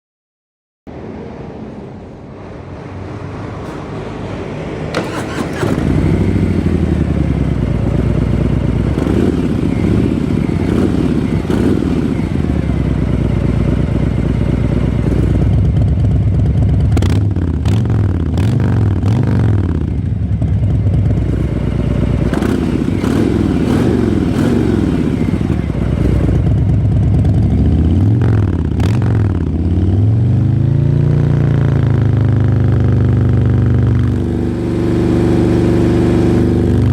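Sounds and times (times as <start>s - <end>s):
motorcycle engine revving: 3.3s - 36.9s
motorcycle engine starting: 3.6s - 36.9s
motorcycle engine idling: 4.9s - 36.9s.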